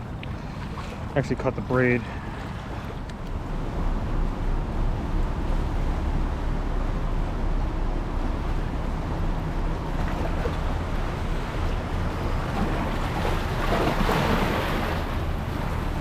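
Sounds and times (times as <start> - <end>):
rushing splashing water: 0.0 - 16.0
water and wind noise: 0.0 - 16.0
low drone: 2.0 - 16.0.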